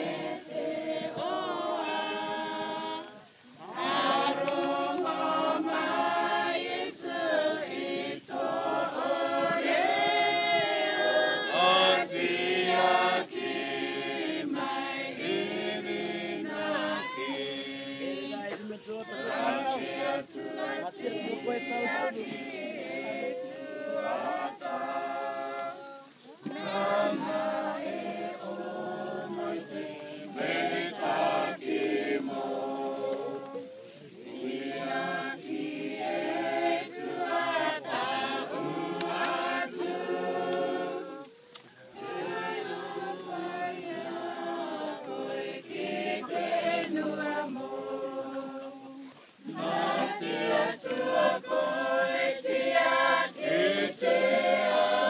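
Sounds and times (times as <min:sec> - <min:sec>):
crowd singing a hymn: 0:00.0 - 0:55.0.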